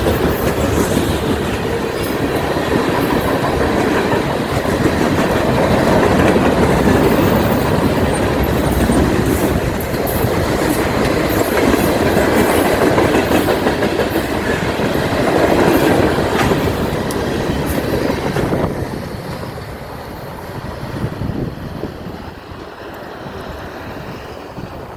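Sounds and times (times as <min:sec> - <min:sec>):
freight train wheels clacking: 0:00.0 - 0:24.9.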